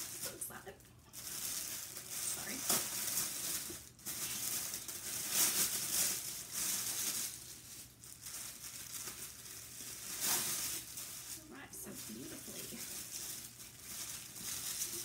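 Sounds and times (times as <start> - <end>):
wrapping crinkling and rustling: 0.0 - 15.0.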